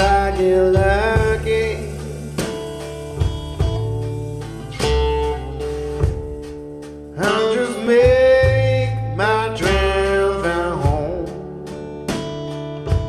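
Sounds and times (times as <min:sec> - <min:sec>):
blues song over loudspeakers: 0:00.0 - 0:13.0.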